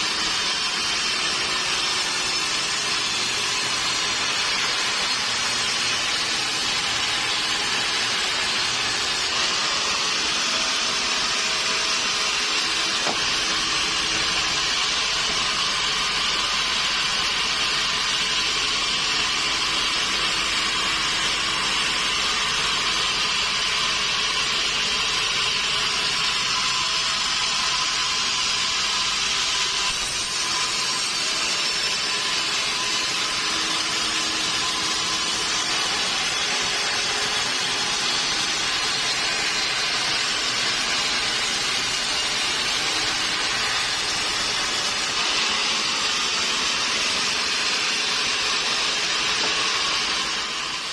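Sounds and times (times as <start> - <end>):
sawmill saw cutting log: 0.0 - 50.9.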